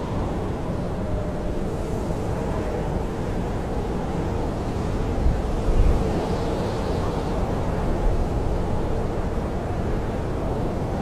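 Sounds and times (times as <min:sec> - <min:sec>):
wind howling around tent: 0:00.0 - 0:11.0.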